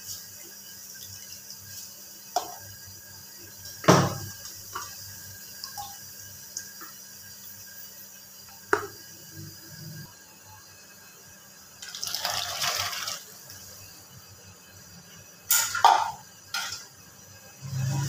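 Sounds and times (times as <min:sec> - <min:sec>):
water hissing in pan: 0:00.0 - 0:14.8, 0:17.5 - 0:18.0.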